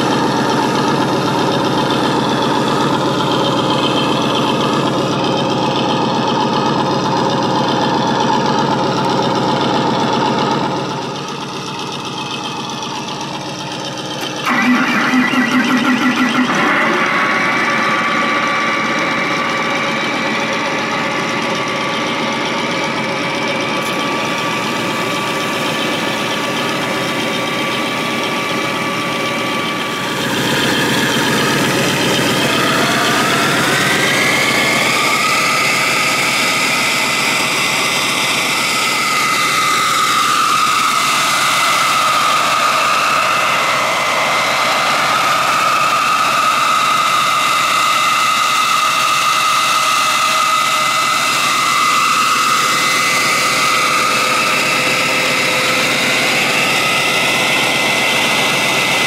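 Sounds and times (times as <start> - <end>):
air turbine whining: 0.0 - 59.0.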